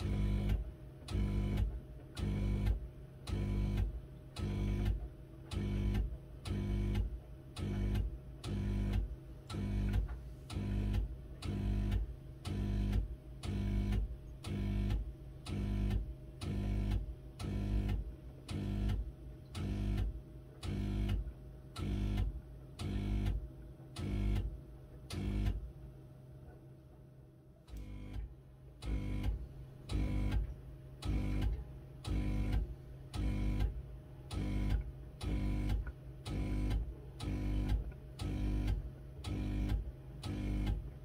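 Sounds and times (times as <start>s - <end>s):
washing machine pulsing hum: 0.0s - 41.0s.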